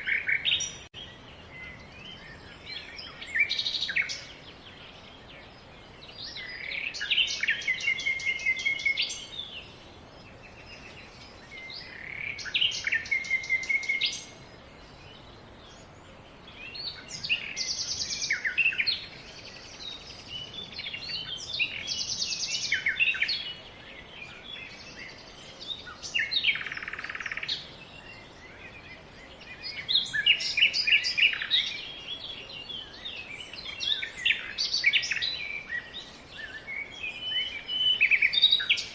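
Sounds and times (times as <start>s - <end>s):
songbirds singing trills: 0.0s - 38.9s.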